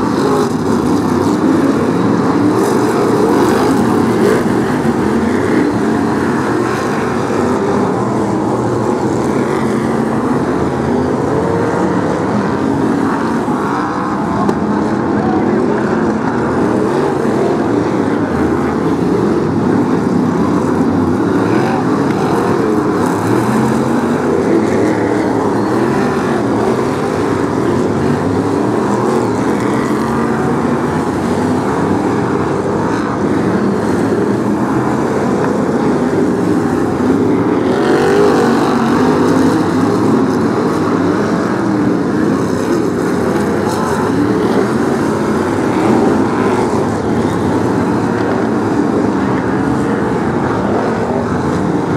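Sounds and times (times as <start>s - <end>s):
racing car engines din: 0.0s - 51.9s.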